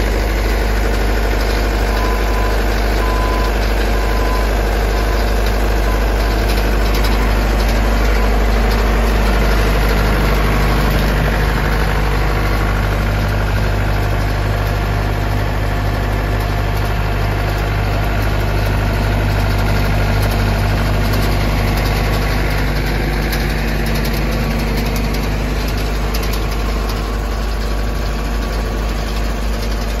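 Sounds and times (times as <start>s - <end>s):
heavy equipment engine running: 0.0s - 30.0s.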